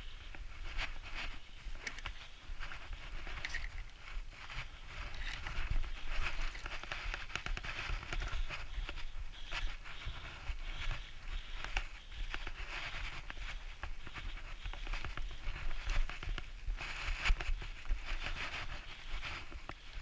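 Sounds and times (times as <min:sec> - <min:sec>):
bike rattling: 0:00.2 - 0:20.0.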